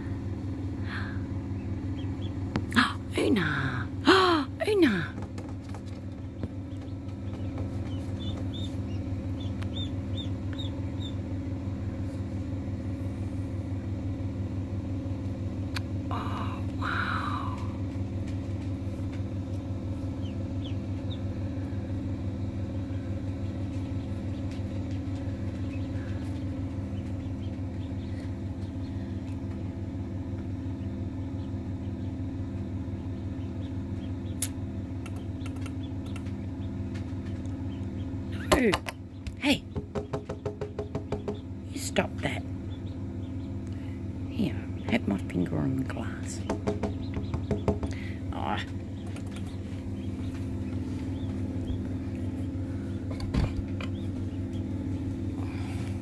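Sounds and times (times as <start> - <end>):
incubator motor and fan hum: 0.0 - 56.0
ducklings peeping: 0.1 - 13.8, 15.7 - 56.0.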